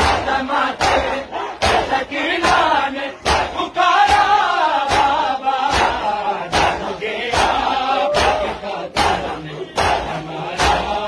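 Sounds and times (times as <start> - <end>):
steady beat of sharp strokes: 0.0 - 11.0
man chanting a lament: 0.1 - 11.0.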